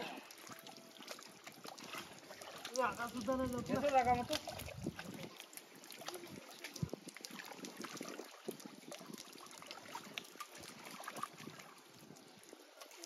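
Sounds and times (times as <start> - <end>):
hands splashing in shallow water: 0.0 - 12.0
water dripping: 0.0 - 13.0.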